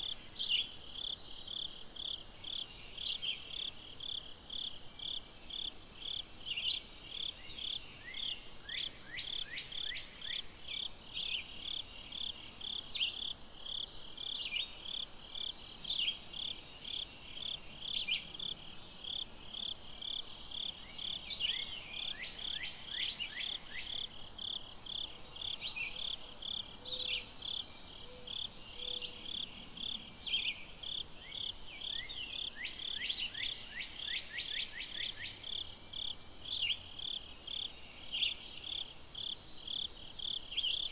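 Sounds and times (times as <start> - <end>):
insect chirping: 0.0 - 40.9.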